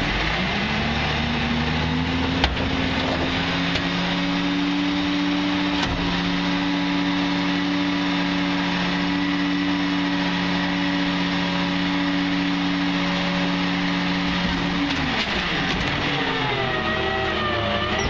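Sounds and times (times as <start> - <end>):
garbage truck engine and hydraulics: 0.0 - 18.0.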